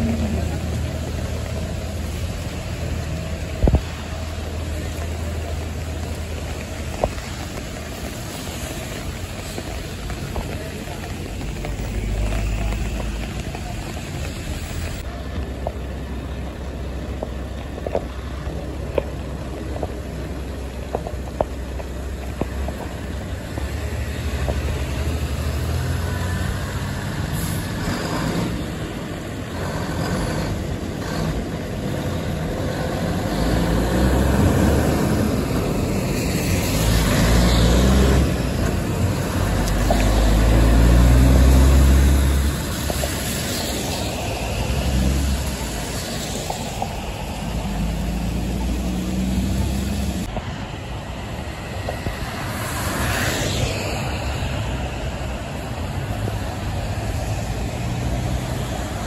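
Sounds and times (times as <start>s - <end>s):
cars hissing over wet road: 0.0s - 59.0s
diesel truck engine accelerating: 0.0s - 59.0s.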